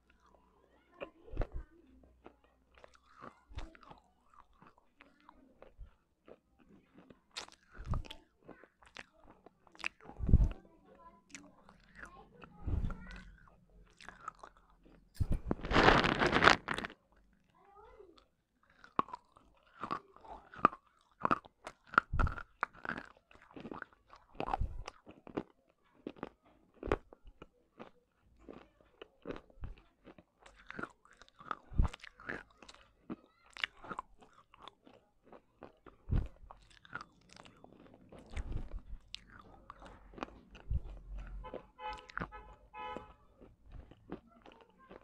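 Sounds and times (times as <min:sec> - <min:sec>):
chewing broken clay pieces: 0:01.0 - 0:10.3, 0:12.9 - 0:17.5, 0:18.2 - 0:42.4, 0:43.0 - 0:45.0.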